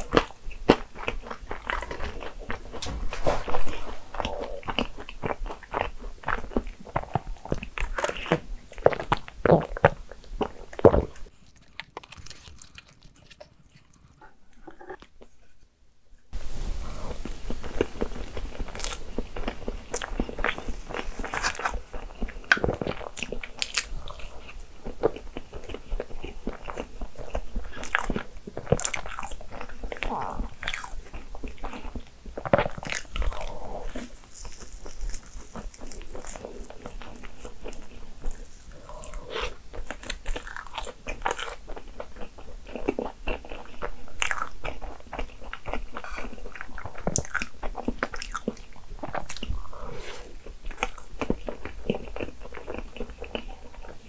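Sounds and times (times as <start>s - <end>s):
close-miked chewing: 0.0s - 15.4s, 16.4s - 54.0s.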